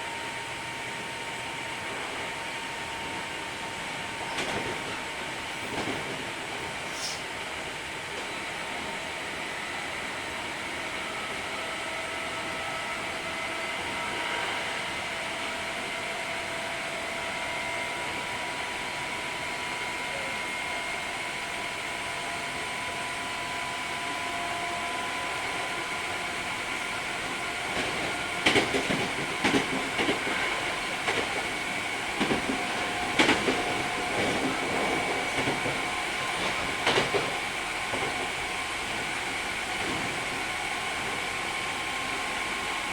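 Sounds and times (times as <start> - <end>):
electric train rumbling: 0.0 - 42.9.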